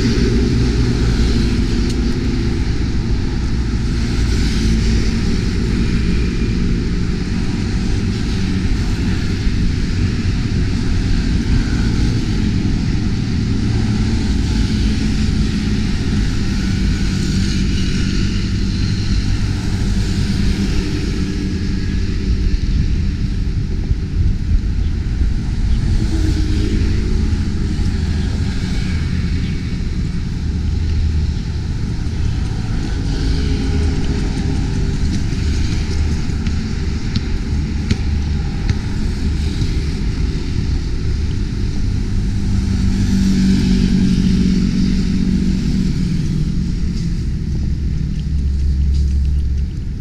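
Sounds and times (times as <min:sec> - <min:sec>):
low outdoor rumble: 0:00.0 - 0:50.0.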